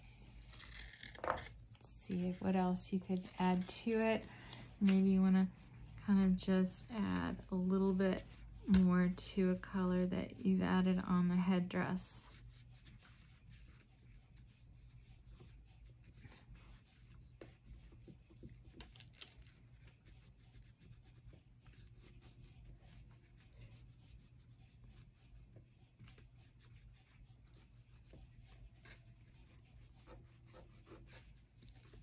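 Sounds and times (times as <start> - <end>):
low steady hum: 0.0 - 32.0
oil pastel scratching on paper: 5.0 - 11.0, 11.8 - 32.0.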